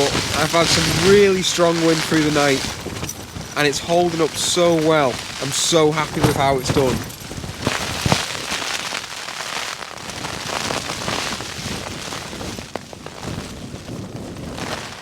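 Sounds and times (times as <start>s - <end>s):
nylon groundsheet crackling: 0.0s - 15.0s.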